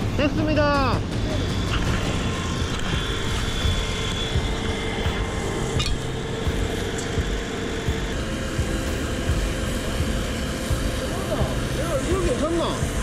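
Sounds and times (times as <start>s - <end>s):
faint steady whine: 0.0s - 13.0s
fire engine mechanical drone: 0.0s - 13.0s.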